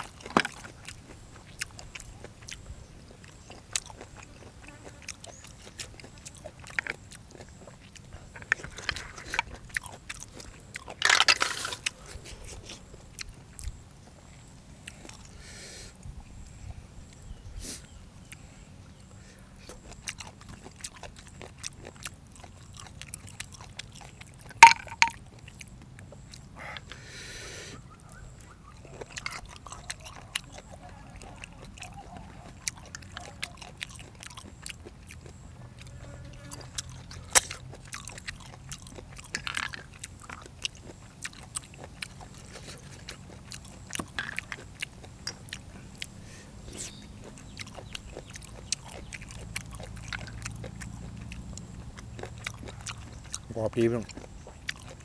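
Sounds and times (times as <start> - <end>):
person chewing food: 0.0 - 15.4, 17.1 - 27.0, 27.8 - 55.0.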